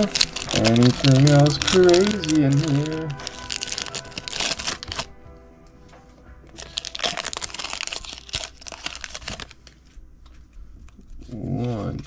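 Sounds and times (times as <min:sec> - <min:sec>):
foil wrapper crinkling: 0:00.0 - 0:05.2, 0:06.4 - 0:12.0
soft background music: 0:00.0 - 0:12.0.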